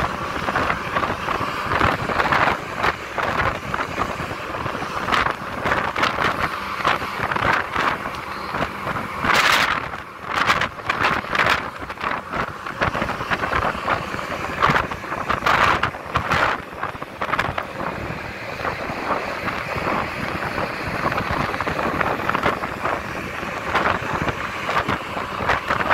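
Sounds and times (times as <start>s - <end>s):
rushing air and water: 0.0s - 25.9s
wind buffeting microphone: 0.0s - 25.9s.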